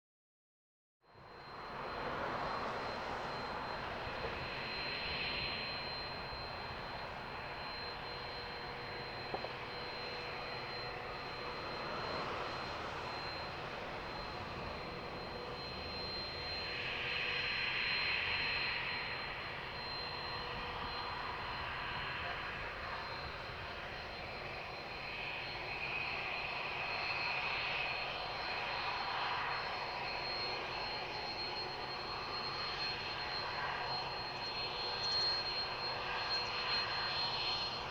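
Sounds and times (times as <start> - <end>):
high jet whine: 1.1 - 37.9
jet engines roaring: 1.2 - 37.9.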